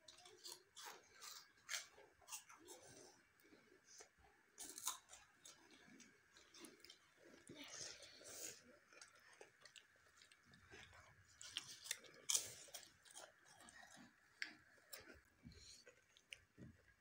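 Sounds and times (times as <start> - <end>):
crunching and chewing: 0.0 - 17.0.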